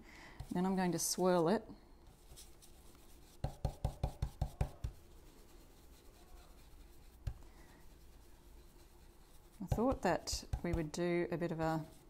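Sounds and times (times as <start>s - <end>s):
stencil brush strokes: 0.4s - 12.0s.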